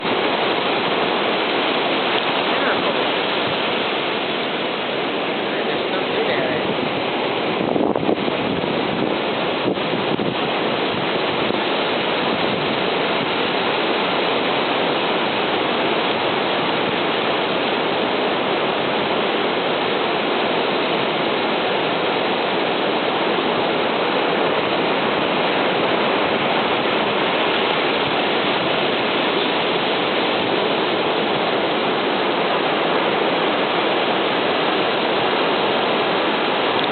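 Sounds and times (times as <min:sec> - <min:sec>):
ocean surf rushing: 0:00.0 - 0:36.9.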